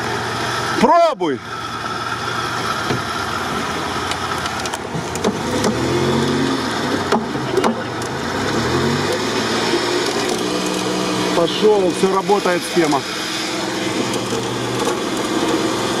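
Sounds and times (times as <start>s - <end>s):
off-road engines revving under load: 0.0s - 16.0s.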